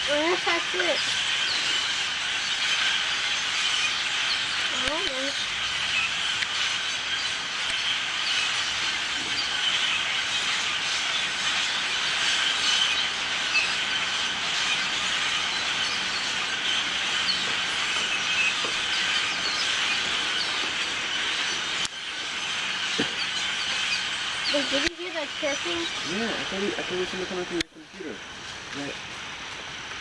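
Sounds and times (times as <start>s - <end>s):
flock of birds chirping: 0.0s - 30.0s.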